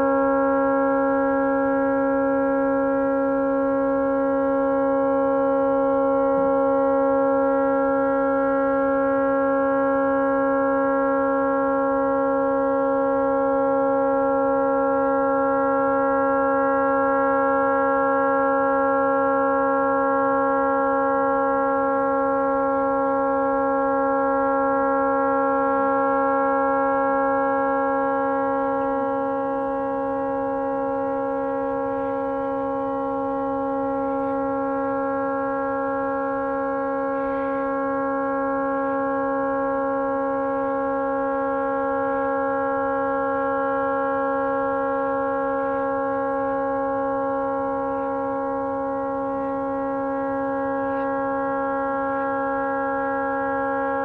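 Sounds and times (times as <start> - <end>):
boat horn steady tone: 0.0 - 54.0.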